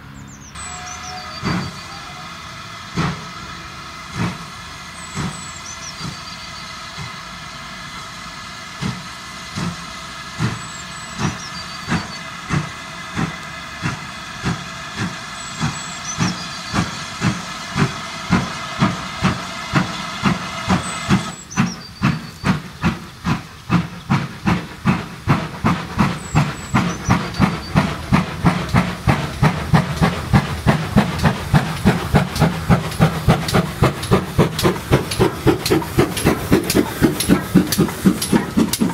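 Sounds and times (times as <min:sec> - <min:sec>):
steam locomotive exhaust beats: 0:00.0 - 0:38.9
steady hiss of steam: 0:00.6 - 0:38.9.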